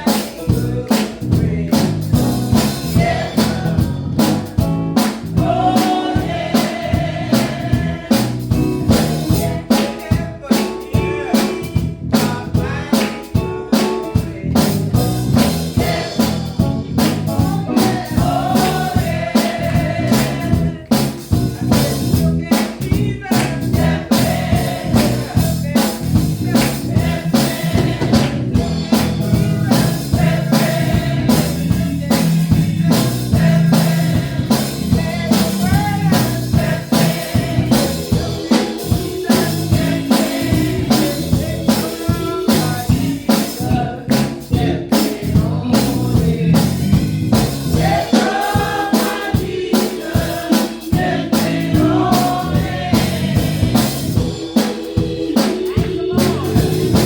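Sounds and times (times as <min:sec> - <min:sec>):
drum kit beat: 0:00.0 - 0:57.0
gospel singing: 0:00.0 - 0:57.0.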